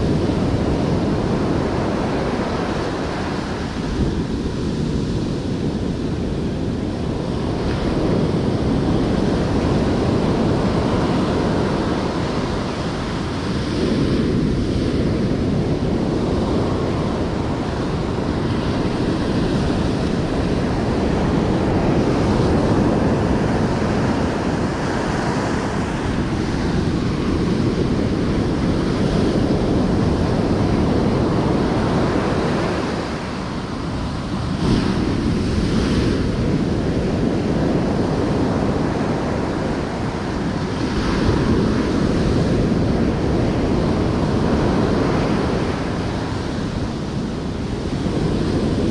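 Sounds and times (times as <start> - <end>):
ocean surf breaking: 0.0 - 48.9
wind rumbling on microphone: 0.0 - 48.9.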